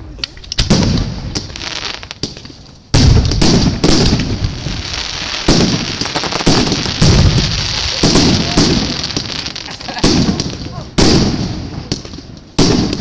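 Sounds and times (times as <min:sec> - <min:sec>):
fireworks bangs with echo: 0:00.6 - 0:13.0.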